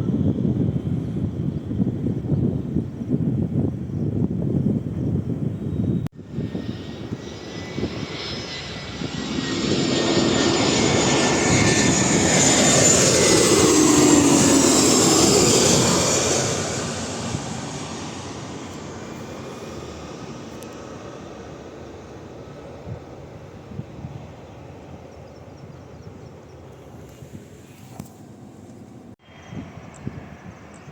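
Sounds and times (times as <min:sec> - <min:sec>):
airliner engines passing by: 0:00.0 - 0:30.9.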